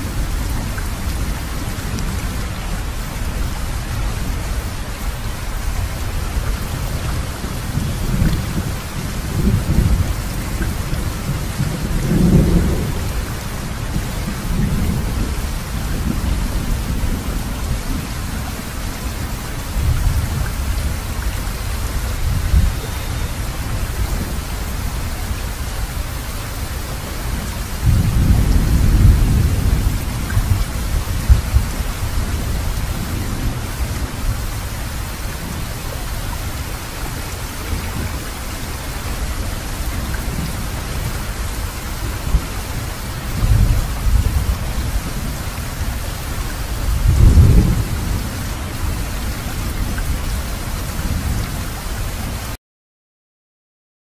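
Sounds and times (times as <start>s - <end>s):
steady rain: 0.0s - 52.6s
thunder rumbling: 5.4s - 51.8s.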